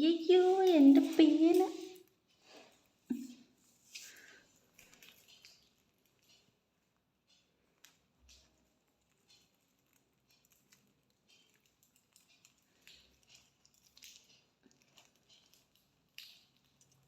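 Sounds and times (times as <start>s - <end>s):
faint small clicks and rustles: 0.0s - 17.0s.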